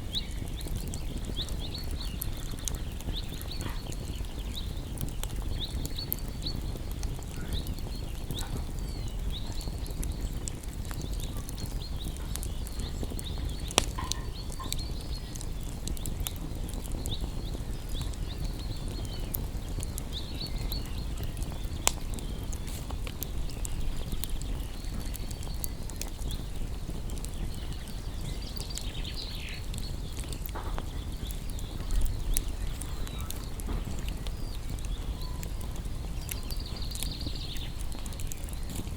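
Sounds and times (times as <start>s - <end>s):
campfire crackling: 0.0s - 38.9s
fire popping: 0.0s - 38.9s
low rumble of flames: 0.0s - 38.9s.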